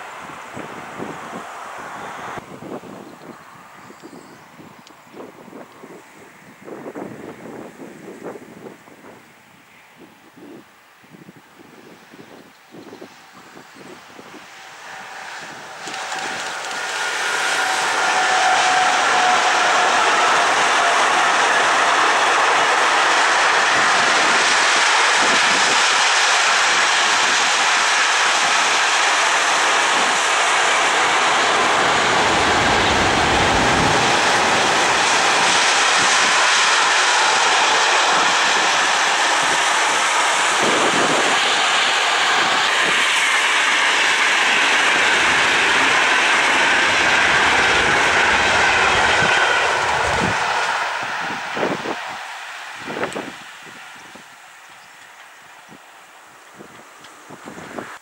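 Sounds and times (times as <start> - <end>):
freight train wheels rushing on rail: 0.0 - 58.0.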